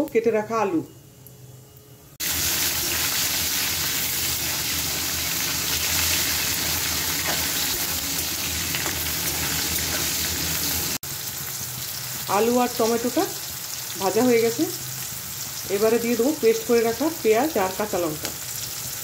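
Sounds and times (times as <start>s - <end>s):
vegetables frying in hot oil: 2.2s - 19.0s.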